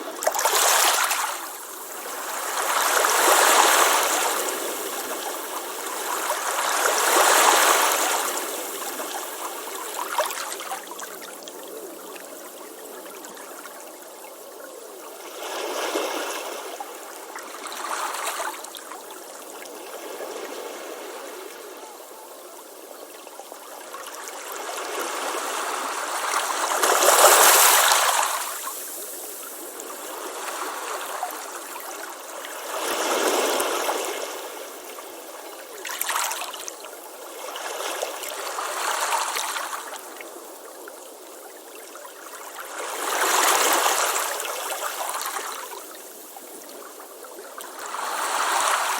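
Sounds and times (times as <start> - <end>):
ocean waves breaking on beach: 0.0 - 13.8, 15.2 - 48.9.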